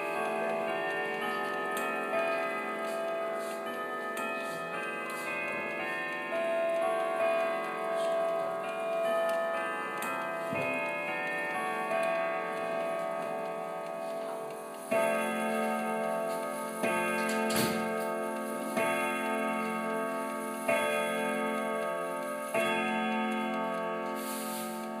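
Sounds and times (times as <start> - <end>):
clock gongs striking a chord: 0.0 - 25.0
clock ticking: 0.0 - 25.0.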